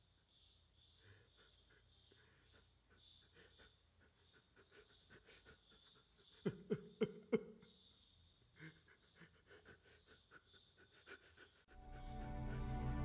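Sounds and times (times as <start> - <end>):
man sobbing: 1.0 - 7.7, 8.5 - 13.0.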